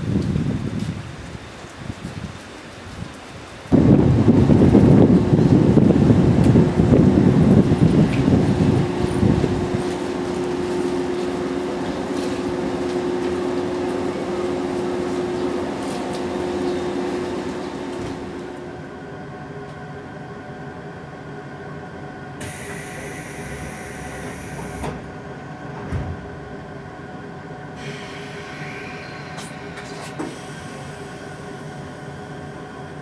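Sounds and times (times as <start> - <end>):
electric train equipment hum: 0.0 - 33.0.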